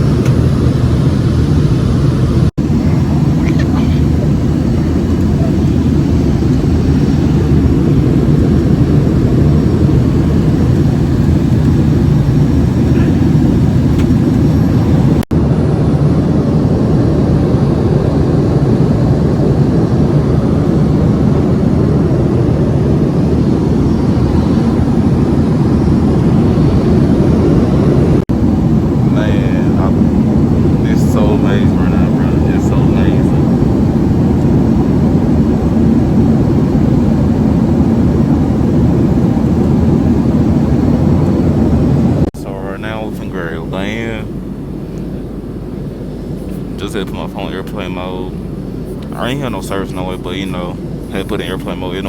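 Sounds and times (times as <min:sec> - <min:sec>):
airliner cabin roar: 0:00.0 - 0:52.0.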